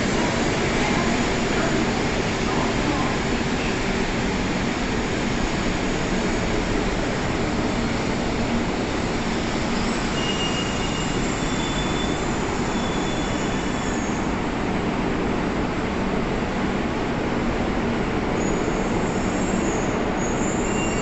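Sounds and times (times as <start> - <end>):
train running: 0.0 - 21.0.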